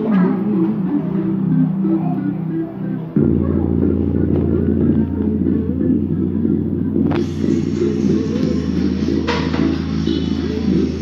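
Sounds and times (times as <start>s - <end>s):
music with heavy bass line: 0.0s - 11.0s.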